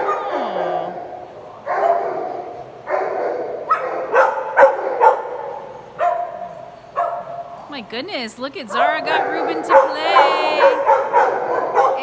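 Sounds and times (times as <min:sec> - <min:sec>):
dogs barking and yipping: 0:00.0 - 0:07.7, 0:08.6 - 0:12.0.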